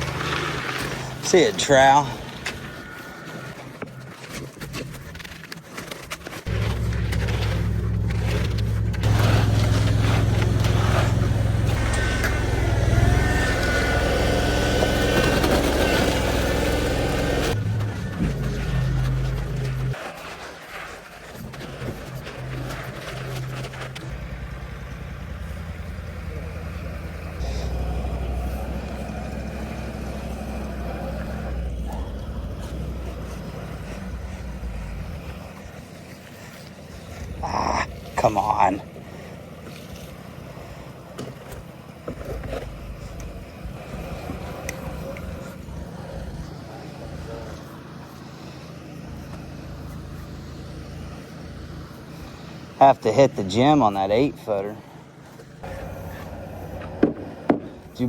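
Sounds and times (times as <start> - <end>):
faint concrete scraping: 0.0 - 58.0
truck diesel engine running: 6.4 - 20.4, 21.3 - 58.0.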